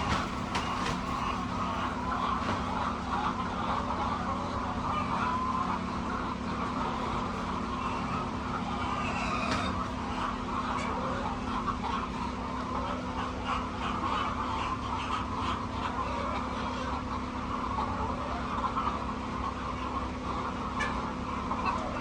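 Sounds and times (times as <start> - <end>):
chickens calling: 0.0 - 22.0
mechanical hum: 0.0 - 22.0.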